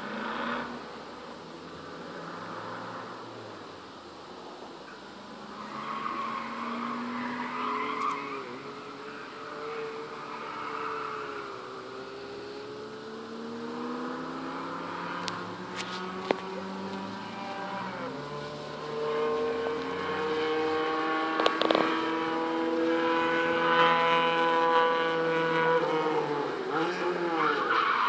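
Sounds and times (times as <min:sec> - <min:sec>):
race car engine revving: 0:05.3 - 0:28.0.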